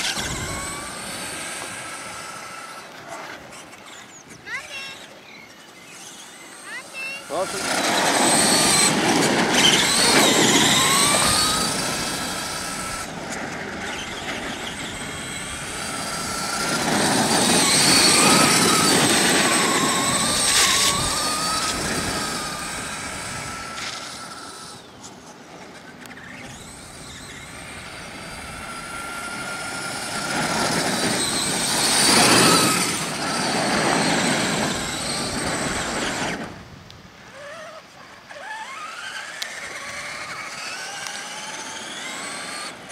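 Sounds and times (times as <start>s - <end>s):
toy truck motor whine: 0.0s - 42.9s
tyres on dirt: 0.0s - 42.9s.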